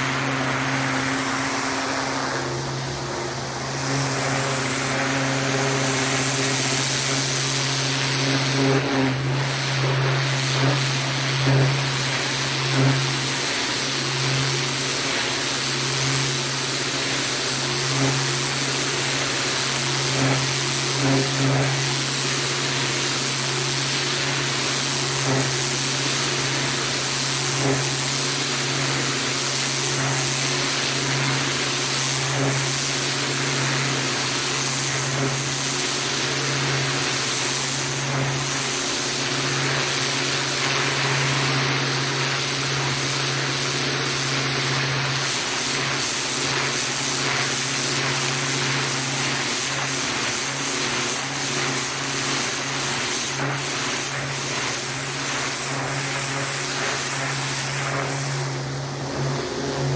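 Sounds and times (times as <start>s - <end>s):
pressure washer engine hum: 0.0s - 59.9s.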